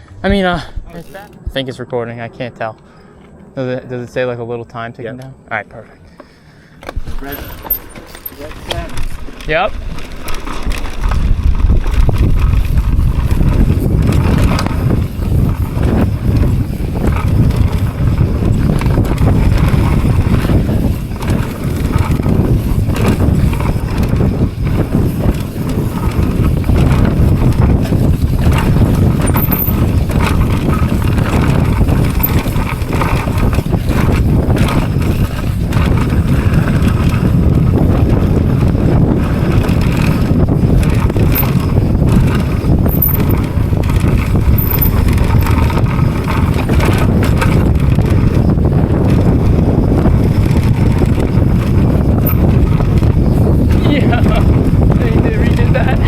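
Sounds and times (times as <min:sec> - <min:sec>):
wind on microphone: 0:00.0 - 0:56.0
bike knocks and rattles: 0:06.8 - 0:56.0
tyres rolling over dirt: 0:06.8 - 0:56.0.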